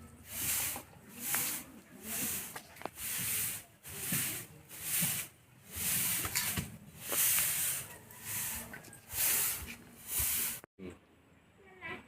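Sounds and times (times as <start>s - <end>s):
scraping strokes: 0.2s - 10.7s.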